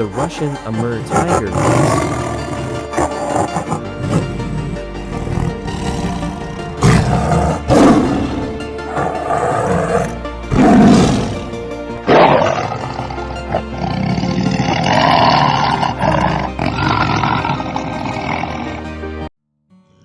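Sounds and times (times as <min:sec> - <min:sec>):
tiger roaring: 0:00.0 - 0:19.0
background music: 0:00.0 - 0:19.3.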